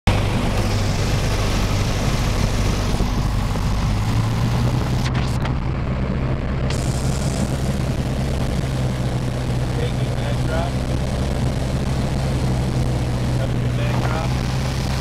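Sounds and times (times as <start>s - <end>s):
propeller plane engine in cabin: 0.0s - 15.0s.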